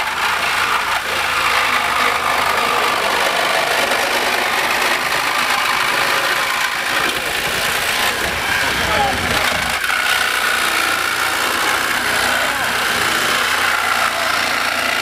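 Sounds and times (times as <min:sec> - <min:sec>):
reciprocating saw cutting sheet metal: 0:00.0 - 0:15.0.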